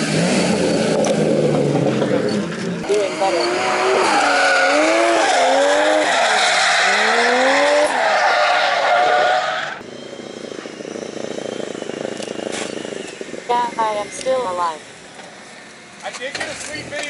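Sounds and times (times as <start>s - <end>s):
car engine revving hard: 0.0s - 14.1s
tyres skidding: 0.0s - 17.0s.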